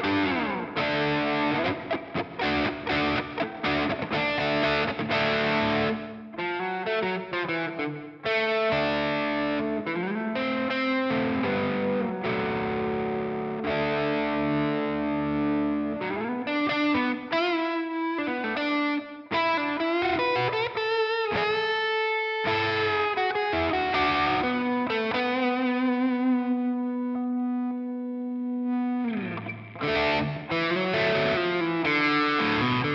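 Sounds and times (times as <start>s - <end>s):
distorted electric guitar: 0.0s - 32.9s.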